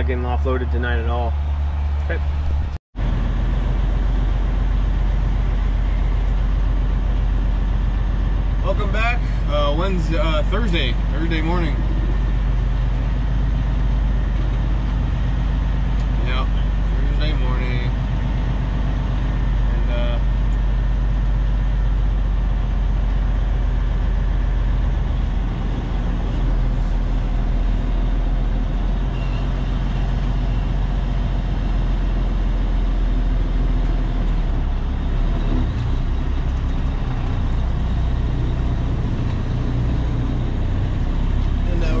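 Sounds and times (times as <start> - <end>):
truck diesel engine droning: 0.0 - 42.0.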